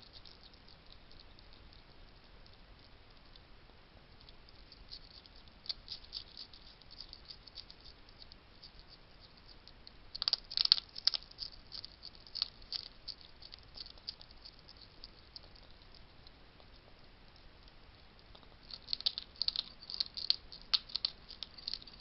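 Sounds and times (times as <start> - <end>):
hedgehogs clicking and crunching: 0.0 - 3.5, 4.1 - 22.0.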